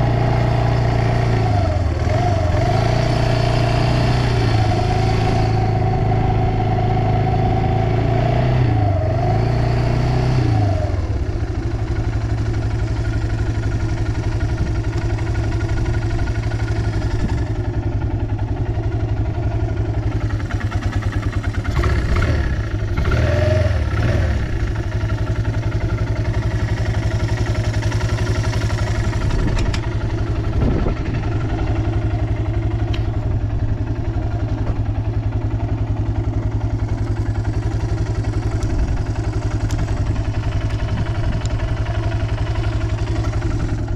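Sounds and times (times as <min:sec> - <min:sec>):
atv engine running: 0:00.0 - 0:43.9.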